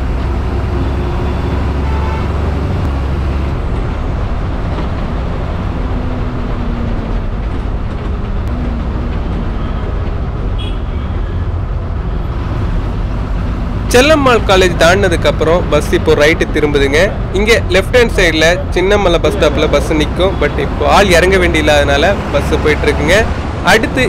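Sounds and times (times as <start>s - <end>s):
bus engine drone: 0.0s - 24.0s
road rumble: 0.0s - 24.0s.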